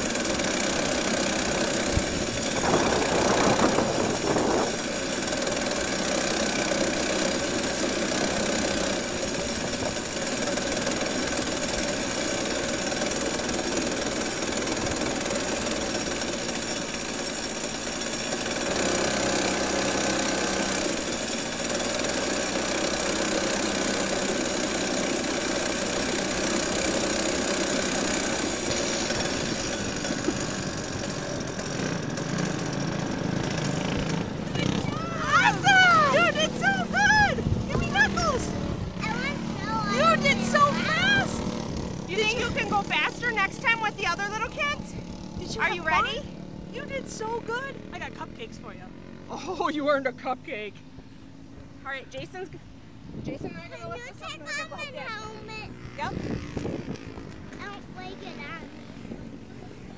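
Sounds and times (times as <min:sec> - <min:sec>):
two-stroke kart engine running: 0:00.0 - 0:59.9.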